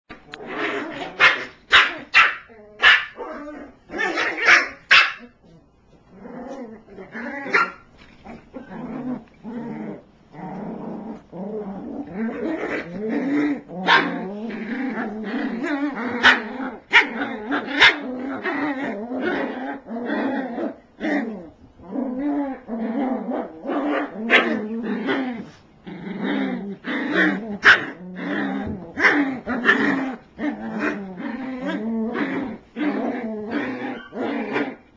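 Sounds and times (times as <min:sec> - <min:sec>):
puppies growling: 0:00.1 - 0:34.9.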